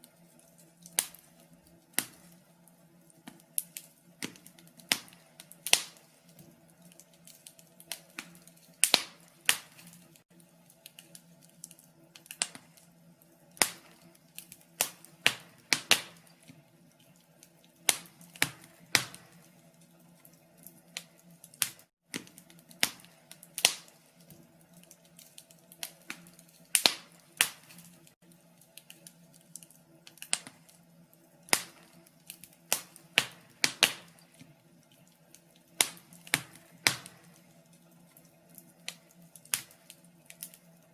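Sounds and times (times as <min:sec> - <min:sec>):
low background hum: 0:00.0 - 0:40.9
wood fire crackling: 0:00.0 - 0:40.9.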